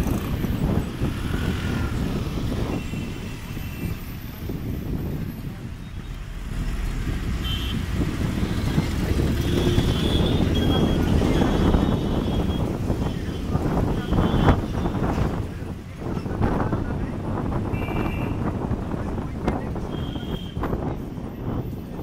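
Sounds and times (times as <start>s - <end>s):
bus engine rumble: 0.0s - 22.0s
road noise: 0.0s - 22.0s.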